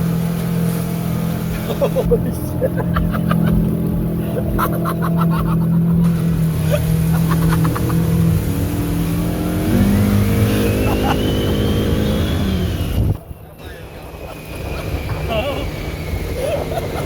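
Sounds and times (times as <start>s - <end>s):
vehicle engine running hard in mud: 0.0s - 17.0s.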